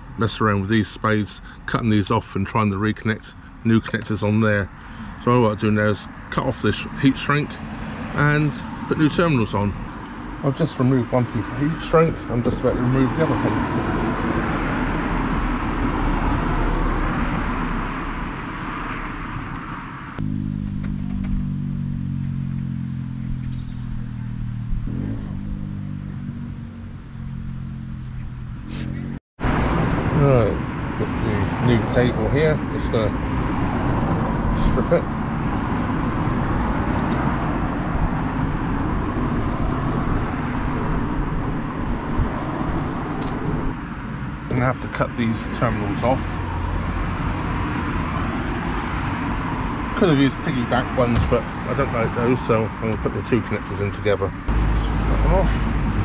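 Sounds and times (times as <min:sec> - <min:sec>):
low engine hum: 0:00.0 - 0:56.0
rumbling outdoor noise: 0:00.0 - 0:56.0.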